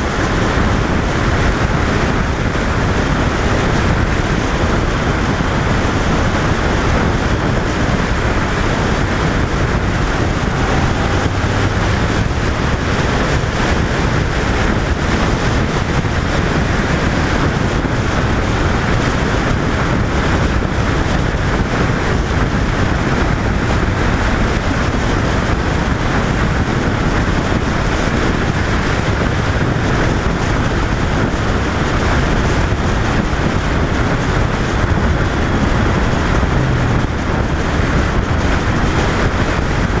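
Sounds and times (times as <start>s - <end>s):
motorcycle engine cruising: 0.0s - 40.0s
wind buffeting microphone: 0.0s - 40.0s.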